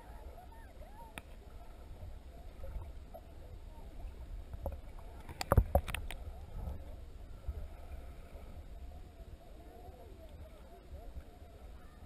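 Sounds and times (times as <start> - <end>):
underwater rumble: 0.0 - 12.0.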